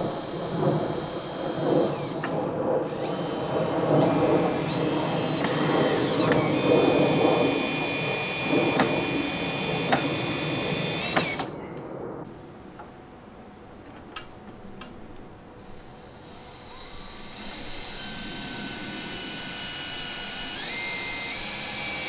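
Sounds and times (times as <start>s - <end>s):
cordless drill motor whining: 0.0s - 11.6s, 15.6s - 22.0s.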